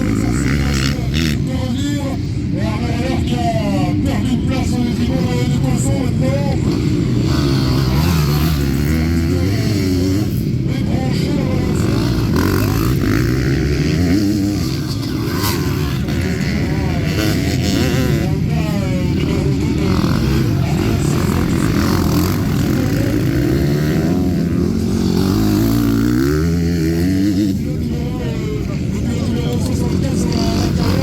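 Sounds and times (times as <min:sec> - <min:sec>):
motocross bike engine revving: 0:00.0 - 0:31.0.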